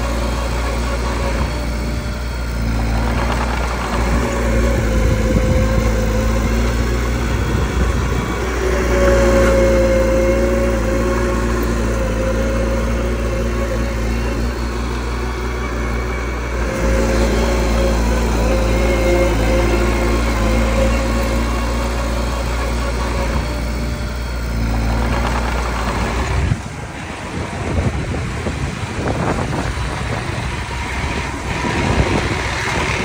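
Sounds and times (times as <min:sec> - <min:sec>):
bulldozer engine running: 0:00.0 - 0:33.0.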